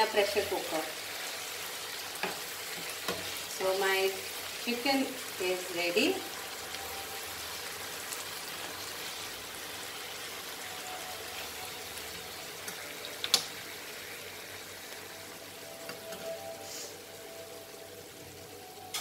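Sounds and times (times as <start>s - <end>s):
curry simmering with low hiss: 0.0s - 19.0s.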